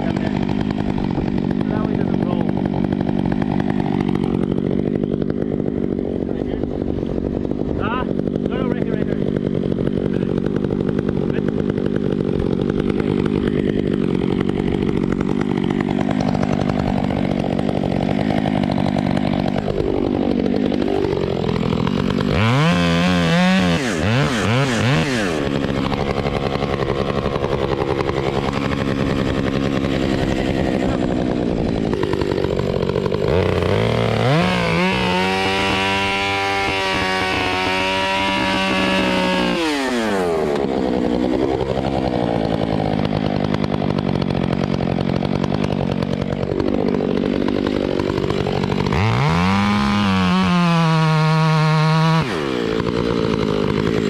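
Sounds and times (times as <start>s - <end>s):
chainsaw running and revving: 0.0s - 54.0s.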